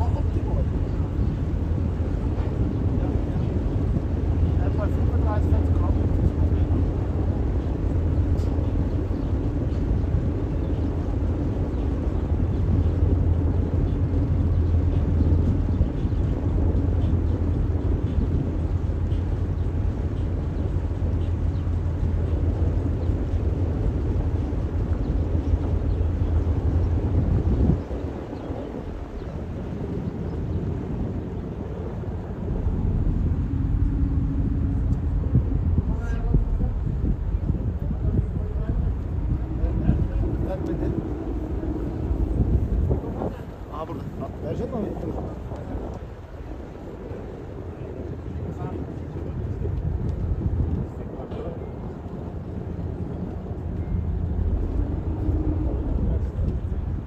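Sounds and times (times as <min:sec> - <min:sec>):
boat engine rumbling: 0:00.0 - 0:57.0.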